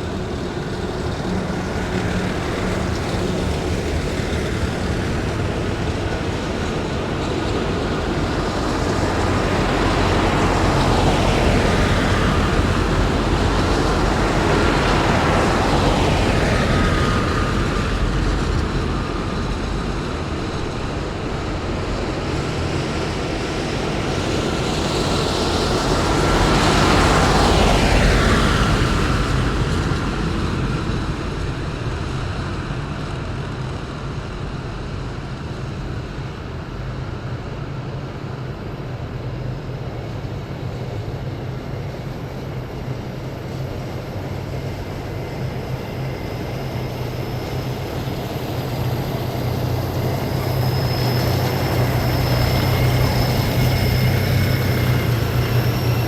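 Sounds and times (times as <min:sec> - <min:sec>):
steady high whine: 0:00.0 - 0:56.0.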